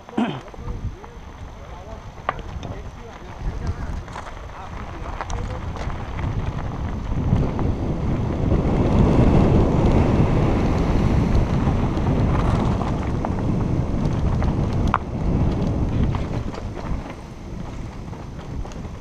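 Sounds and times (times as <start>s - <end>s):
bike tyres crunching on gravel: 0.0s - 19.0s
wind rushing over microphone: 0.0s - 19.0s.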